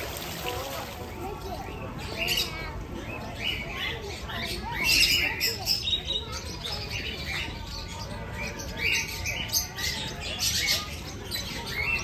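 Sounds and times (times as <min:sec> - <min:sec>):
low background murmur: 0:00.0 - 0:12.0
birds chirping and squawking: 0:00.9 - 0:12.0.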